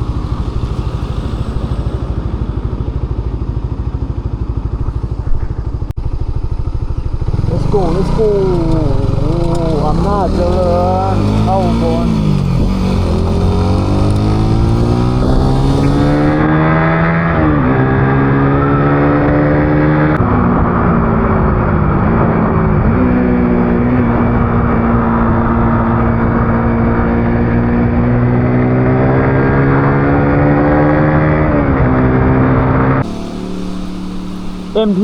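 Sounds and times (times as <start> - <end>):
road and wind noise: 0.0 - 35.0
vehicle engine accelerating: 0.0 - 35.0.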